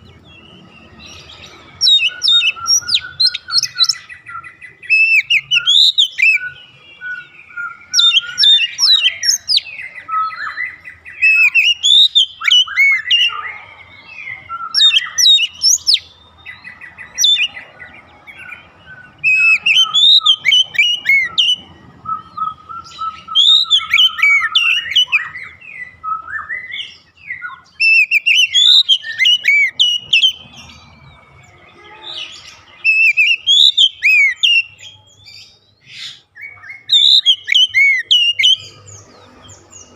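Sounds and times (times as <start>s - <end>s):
bird singing whistled phrases: 1.2s - 17.7s, 18.4s - 30.4s, 32.0s - 38.9s.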